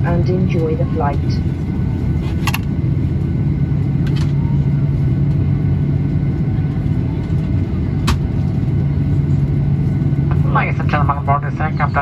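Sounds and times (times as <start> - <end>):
aircraft cabin engine hum: 0.0 - 12.0.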